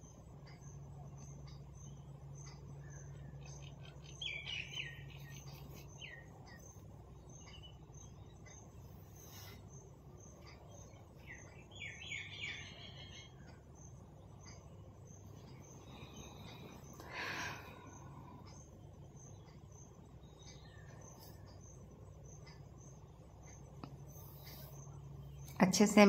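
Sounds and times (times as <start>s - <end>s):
faint bird chirps: 0.0s - 26.0s
low steady hum: 0.0s - 26.0s.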